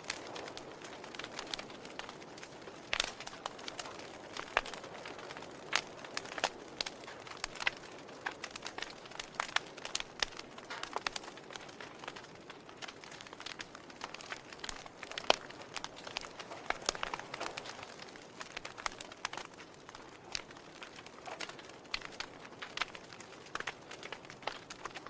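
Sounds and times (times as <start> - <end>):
fire crackling: 0.0 - 25.0
soft steady hiss: 0.0 - 25.0.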